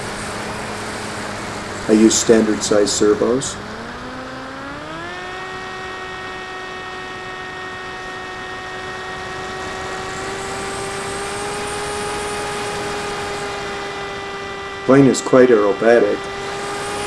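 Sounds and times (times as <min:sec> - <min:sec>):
model plane motor whining: 0:00.0 - 0:17.0.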